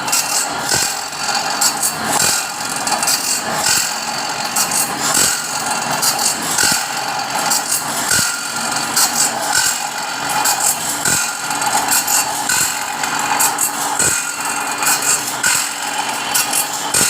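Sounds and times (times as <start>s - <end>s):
metallic rattling and clatter: 0.0s - 17.0s
sawmill machinery running: 0.0s - 17.0s.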